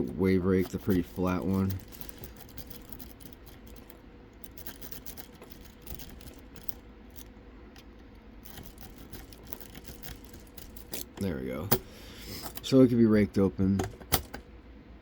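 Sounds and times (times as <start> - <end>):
metallic scratches of lock picking: 0.6 - 12.7.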